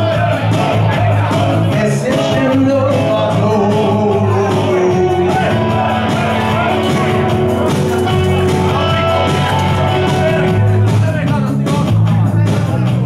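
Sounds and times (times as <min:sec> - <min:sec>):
electric guitar: 0:00.0 - 0:11.2
electric bass guitar: 0:00.0 - 0:13.0
man singing: 0:00.0 - 0:13.0.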